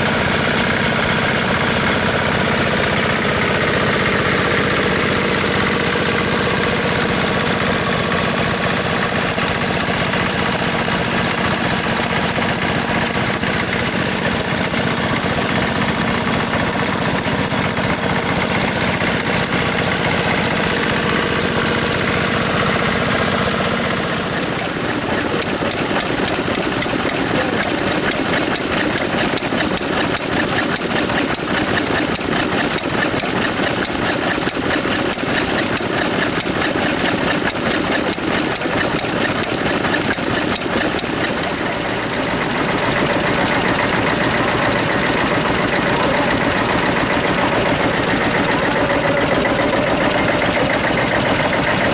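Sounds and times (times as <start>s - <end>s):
stationary engines chugging: 0.0s - 51.9s.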